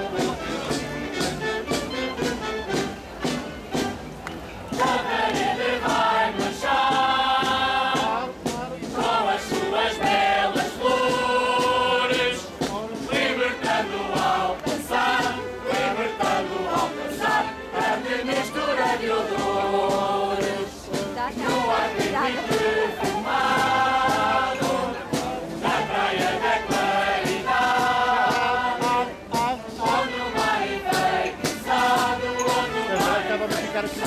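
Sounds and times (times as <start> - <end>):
chorus singing: 0.0 - 4.0, 4.7 - 34.0
band music with steady beat: 0.0 - 34.0.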